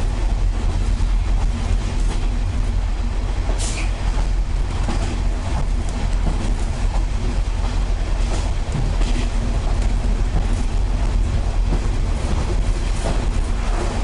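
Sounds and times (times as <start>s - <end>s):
diesel railcar rumble: 0.0s - 14.0s.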